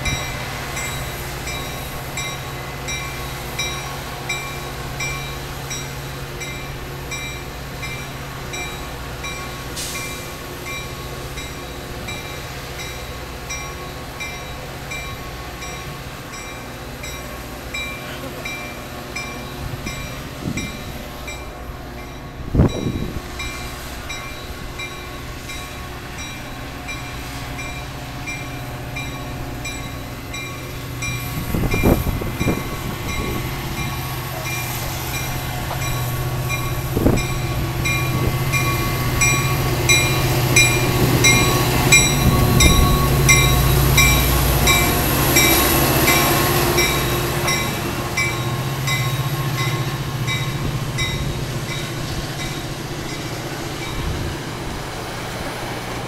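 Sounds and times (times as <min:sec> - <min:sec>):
diesel locomotive engine drone: 0:00.0 - 0:56.0
train wheels rumbling: 0:00.0 - 0:56.0.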